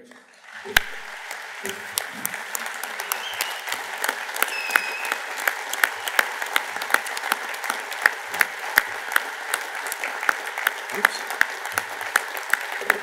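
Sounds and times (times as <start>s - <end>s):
audience applauding: 0.0s - 13.0s
loud close claps: 0.4s - 13.0s.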